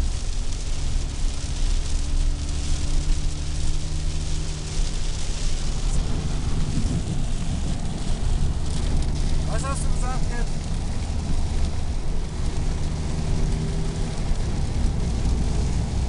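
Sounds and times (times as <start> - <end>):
car low hum: 0.0 - 16.0
heavy rain on car roof: 0.0 - 16.0.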